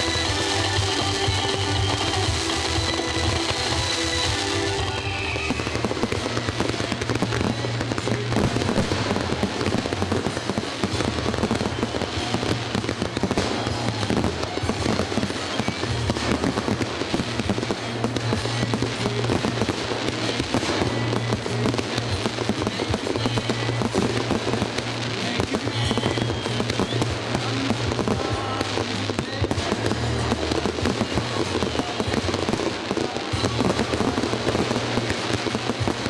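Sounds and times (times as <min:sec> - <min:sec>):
fireworks crackling and bursting: 0:00.0 - 0:36.0
music playing: 0:00.0 - 0:36.0.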